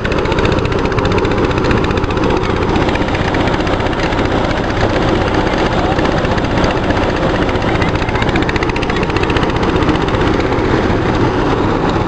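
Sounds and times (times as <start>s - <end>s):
rice thresher running: 0.0s - 12.0s.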